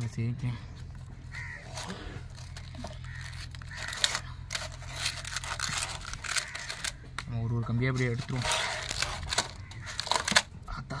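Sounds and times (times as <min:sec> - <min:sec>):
aluminium foil crinkling and tearing: 0:01.4 - 0:10.5.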